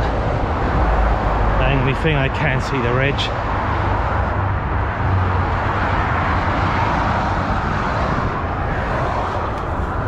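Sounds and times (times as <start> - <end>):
motorway traffic going by: 0.0 - 10.0.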